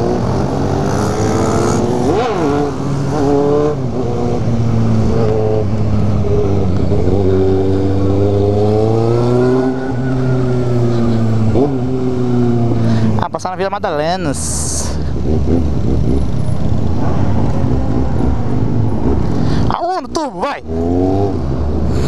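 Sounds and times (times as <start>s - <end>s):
motorcycle engine accelerating: 0.0s - 13.2s, 14.4s - 19.8s, 20.6s - 22.0s.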